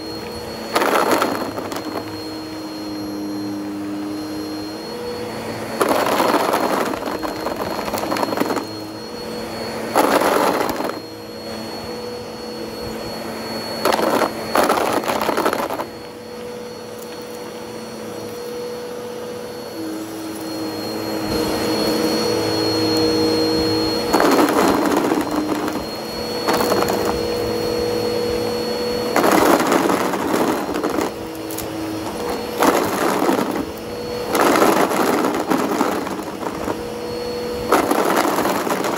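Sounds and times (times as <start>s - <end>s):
vacuum cleaner motor hum and whine: 0.0s - 38.9s
vacuum crunching clatter: 0.0s - 38.9s.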